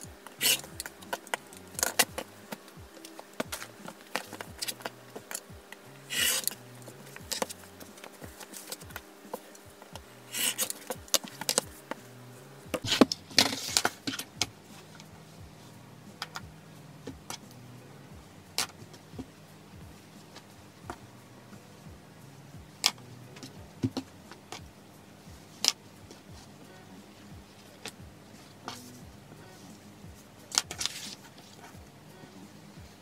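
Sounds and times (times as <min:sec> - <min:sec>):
quiet background music: 0:00.0 - 0:33.0.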